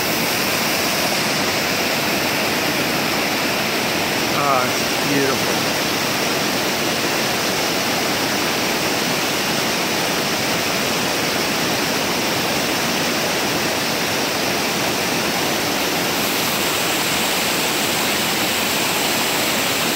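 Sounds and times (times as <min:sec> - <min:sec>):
waterfall rushing over boulders: 0:00.0 - 0:19.9.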